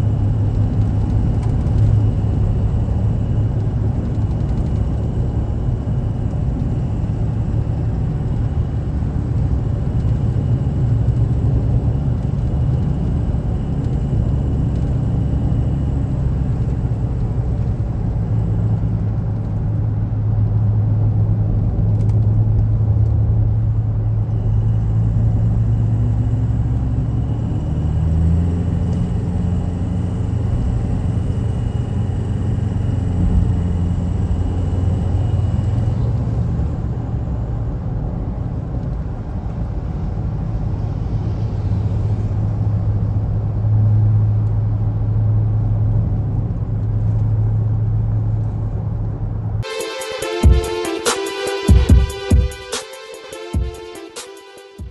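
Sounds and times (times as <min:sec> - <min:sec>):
car engine and road rumble: 0:00.0 - 0:49.7.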